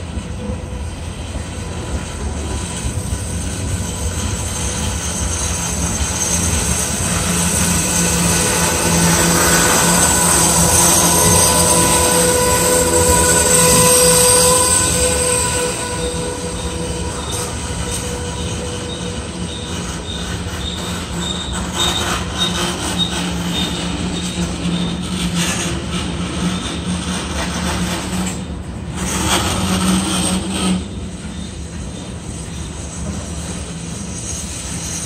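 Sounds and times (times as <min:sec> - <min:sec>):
train cars rumbling and clattering: 0:00.0 - 0:35.0
train wheels squealing on rail: 0:00.0 - 0:35.0.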